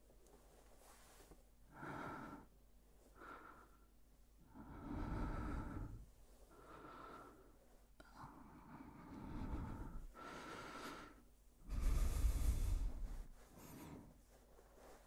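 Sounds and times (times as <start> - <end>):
man breathing: 1.7 - 15.0.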